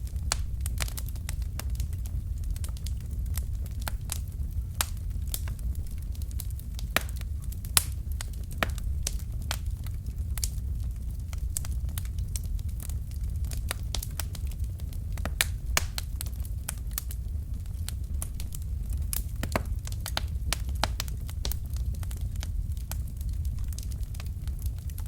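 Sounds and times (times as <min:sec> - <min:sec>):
burning logs crackling: 0:00.0 - 0:25.0.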